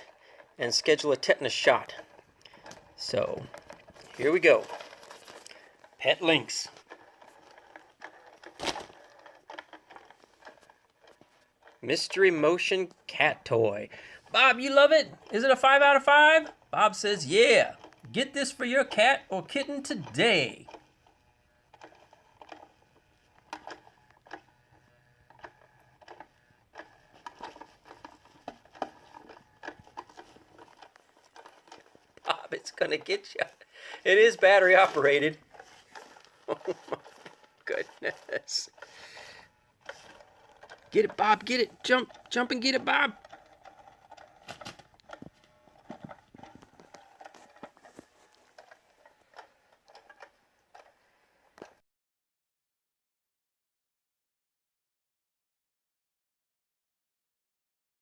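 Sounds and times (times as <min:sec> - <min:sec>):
toy motor whirring: 0:00.0 - 0:12.8, 0:13.4 - 0:51.0.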